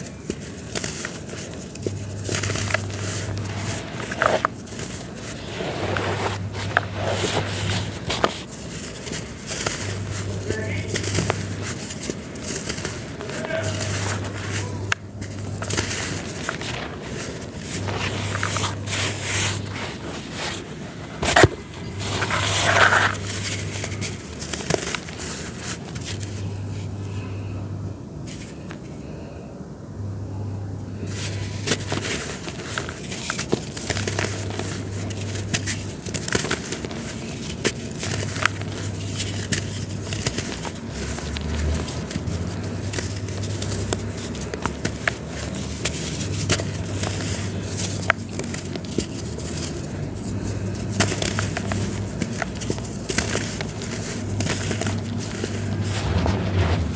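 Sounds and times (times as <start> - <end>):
gritty material crumbling: 0.0 - 26.7, 31.1 - 56.9.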